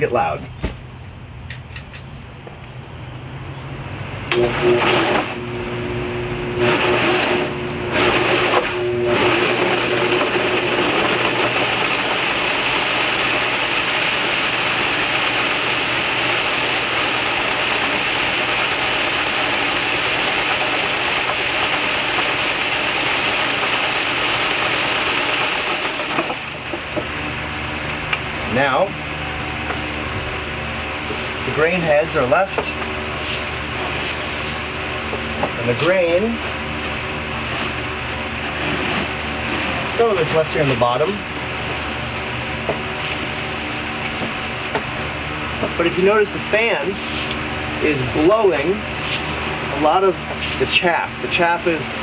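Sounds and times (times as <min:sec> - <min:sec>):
motor-driven thresher whirring: 0:04.2 - 0:52.0.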